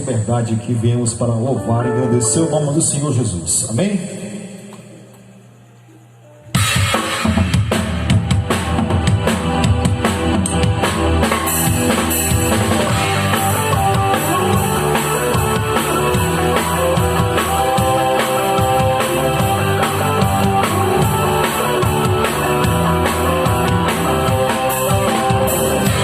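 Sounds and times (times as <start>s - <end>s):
gospel band playing: 0.0s - 4.0s, 6.5s - 26.0s.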